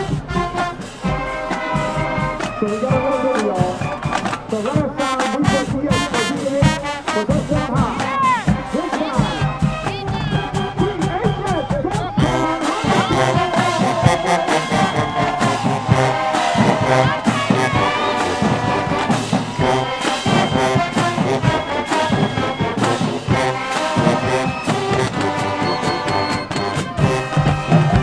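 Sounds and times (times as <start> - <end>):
brass section sustaining chords: 0.0 - 11.0, 12.2 - 28.0
drumline hits: 0.0 - 28.0.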